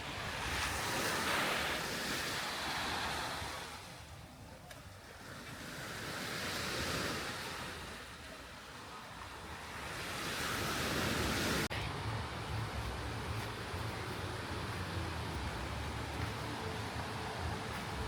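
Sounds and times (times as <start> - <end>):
sea waves washing onto beach: 0.0 - 18.0.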